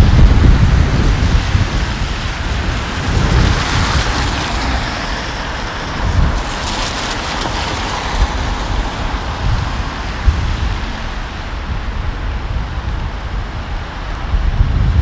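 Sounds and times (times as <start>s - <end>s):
rain hissing: 0.0s - 14.2s
wind gusting on microphone: 0.0s - 15.0s.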